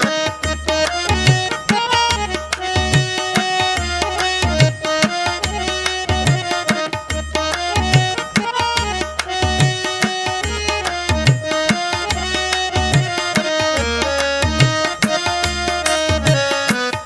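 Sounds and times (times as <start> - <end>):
music with held melodic notes: 0.0 - 17.0.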